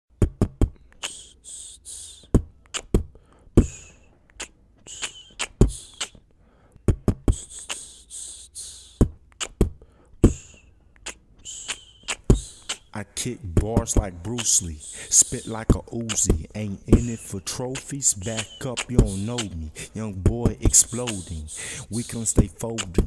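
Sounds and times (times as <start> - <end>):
hip-hop beat: 0.2 - 6.2, 6.9 - 23.0.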